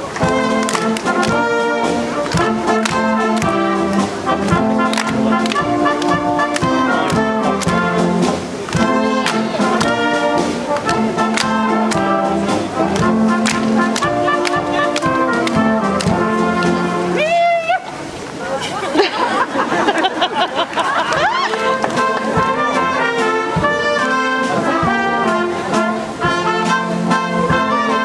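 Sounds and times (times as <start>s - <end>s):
brass band playing folk dance: 0.0s - 18.2s, 19.2s - 28.0s.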